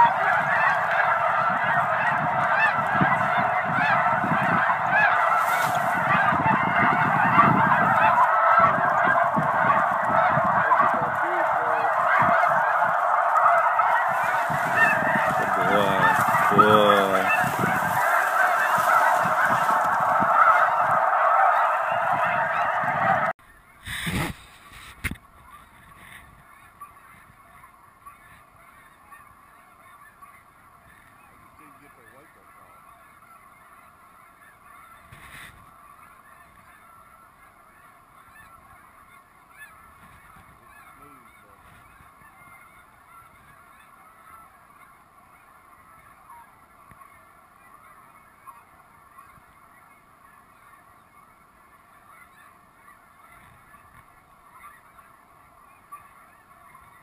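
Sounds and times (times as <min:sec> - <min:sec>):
flock of geese calling: 0:00.0 - 0:57.0.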